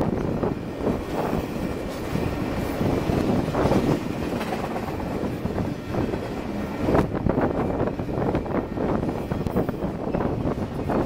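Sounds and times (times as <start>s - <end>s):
train cars clanking: 0.0s - 11.0s
train wheels rumbling on rails: 0.0s - 11.0s.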